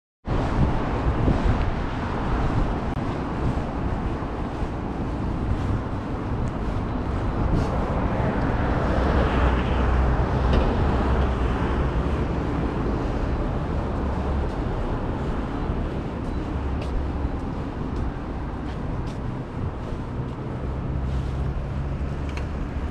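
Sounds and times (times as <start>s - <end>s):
traffic rumble: 0.2s - 22.9s.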